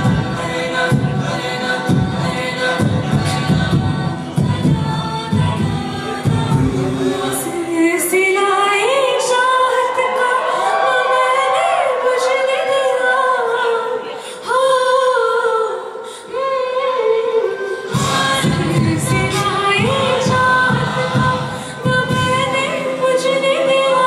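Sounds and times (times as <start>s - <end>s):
a cappella group singing: 0.0s - 24.0s.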